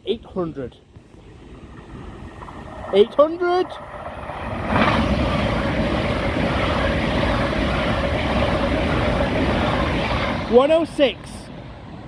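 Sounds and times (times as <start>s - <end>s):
steady train whine: 0.0s - 12.0s
train passing at speed: 1.0s - 12.0s.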